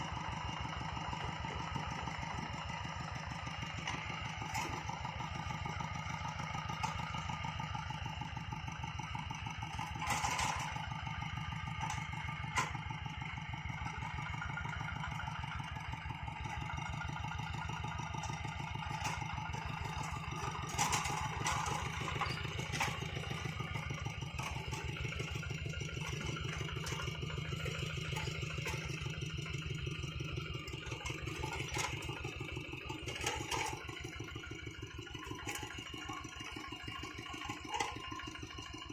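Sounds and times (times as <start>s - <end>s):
diesel engine running: 0.0s - 38.9s
metal clanks and knocks: 3.5s - 8.0s, 9.2s - 15.7s, 16.4s - 38.9s.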